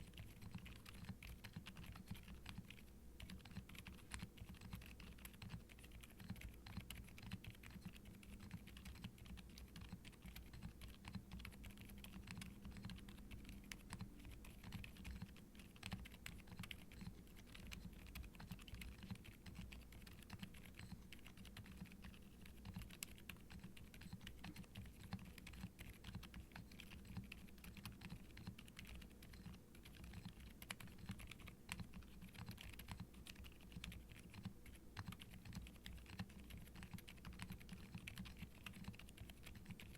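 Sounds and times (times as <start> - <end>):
quiet mechanical keyboard typing: 0.0 - 39.9.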